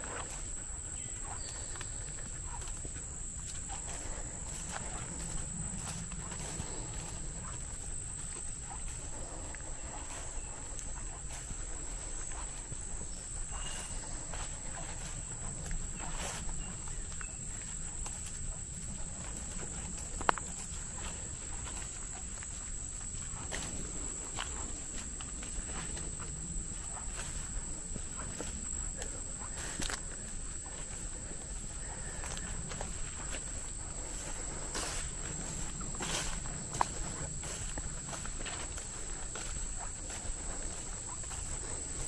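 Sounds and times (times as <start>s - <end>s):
footsteps through tall grass: 0.0s - 42.0s
insect drone: 0.0s - 42.0s.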